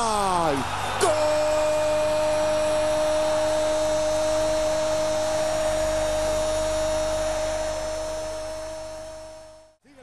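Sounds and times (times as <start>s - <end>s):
stadium crowd noise: 0.0s - 10.0s
constant hum-like tone: 1.1s - 9.8s.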